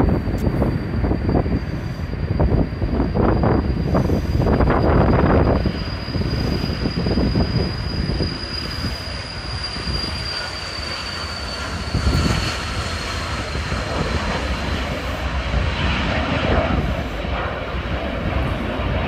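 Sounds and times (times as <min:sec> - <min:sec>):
jet engine roar and whine: 0:00.0 - 0:19.0.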